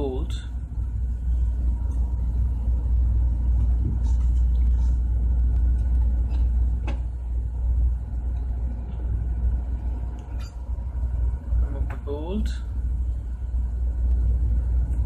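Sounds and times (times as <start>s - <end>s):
low machinery rumble: 0.0s - 15.0s.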